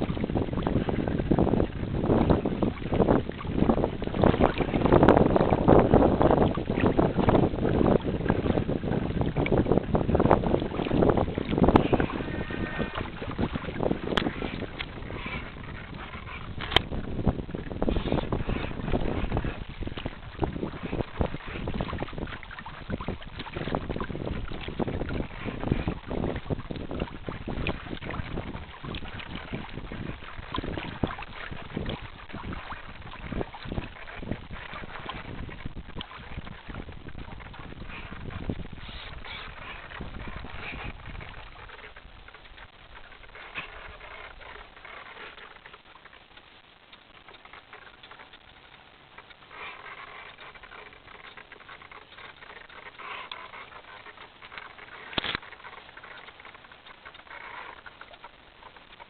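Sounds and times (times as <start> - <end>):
water splashing against hull: 0.0 - 59.0
wind buffeting microphone: 0.0 - 59.0.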